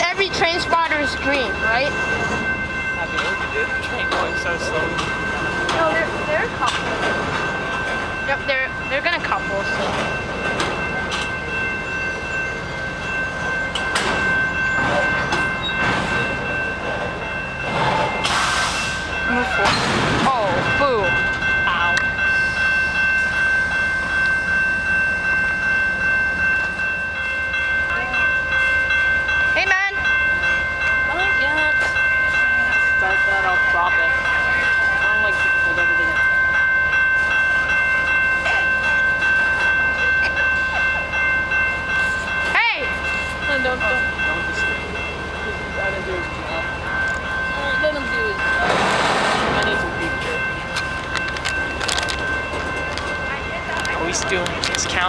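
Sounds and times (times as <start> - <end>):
train cars clanking: 0.0 - 55.0
train rumble: 0.0 - 55.0.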